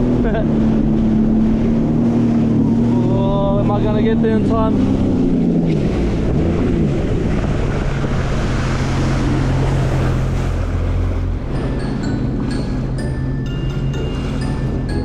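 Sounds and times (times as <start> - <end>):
jet ski engine: 0.0 - 15.0
wind on microphone: 0.0 - 15.0.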